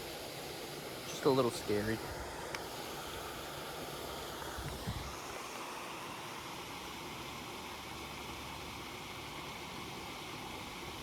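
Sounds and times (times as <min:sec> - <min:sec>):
water rushing through spillway: 0:00.0 - 0:11.0.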